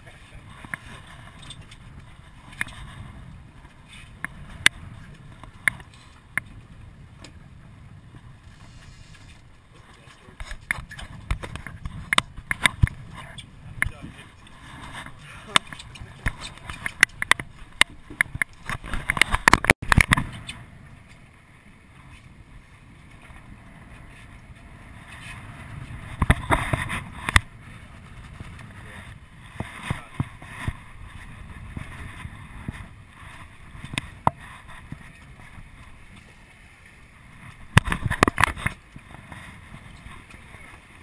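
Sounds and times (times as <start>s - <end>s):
choppy sea splashing: 0.0s - 41.0s.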